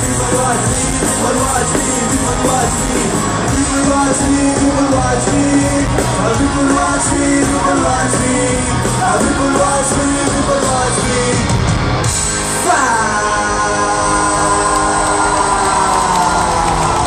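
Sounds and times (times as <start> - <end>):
drums: 0.0 - 17.0
electric guitar: 0.0 - 17.0
vocals: 0.0 - 17.0.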